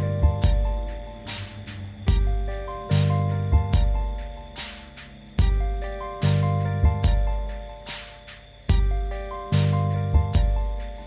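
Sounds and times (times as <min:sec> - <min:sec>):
instrumental background music: 0:00.0 - 0:11.0
sharp drum hits: 0:00.0 - 0:11.0.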